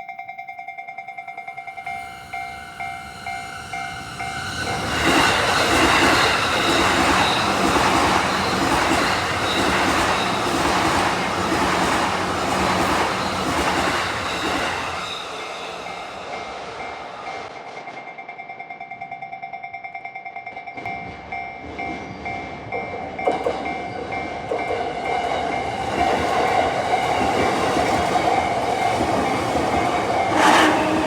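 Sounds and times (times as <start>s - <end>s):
level-crossing bell ringing: 0.0s - 11.3s, 12.8s - 31.0s
train wheels clattering: 1.2s - 18.8s, 20.5s - 31.0s.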